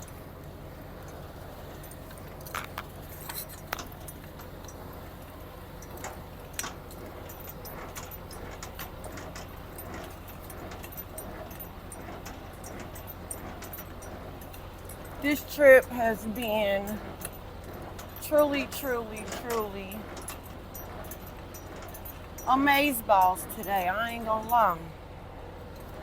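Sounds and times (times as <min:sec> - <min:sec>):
light clicks and jingles: 0:00.0 - 0:24.9
truck engine idling: 0:00.0 - 0:26.0.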